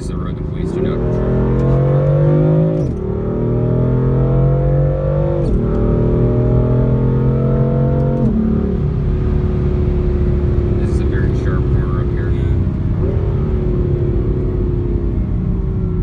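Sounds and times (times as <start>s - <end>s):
car engine accelerating through gears: 0.0s - 16.0s.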